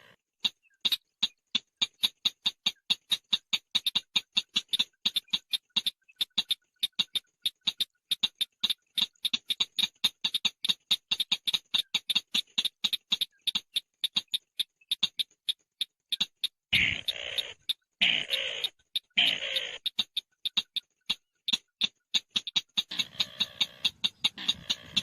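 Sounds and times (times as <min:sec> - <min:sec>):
bird call of clicking notes: 0:00.0 - 0:25.0.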